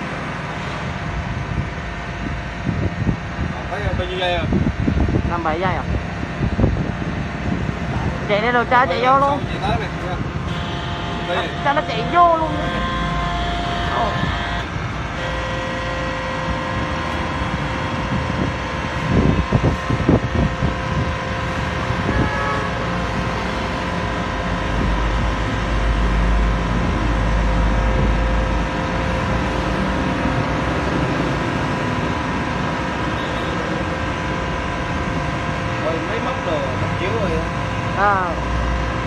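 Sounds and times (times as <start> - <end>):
deep rumble: 0.0 - 35.8
hydraulic pump humming whine: 0.0 - 39.0.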